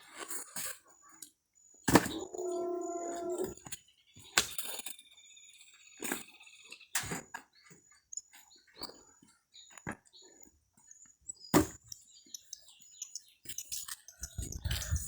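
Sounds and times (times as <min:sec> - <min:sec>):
faint birds chirping: 0:00.8 - 0:15.0.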